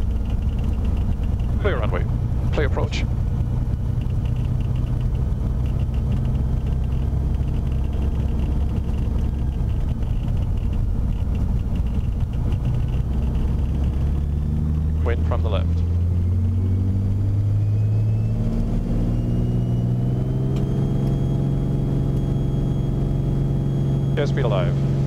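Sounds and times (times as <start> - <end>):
propeller plane engine running: 0.0 - 25.0.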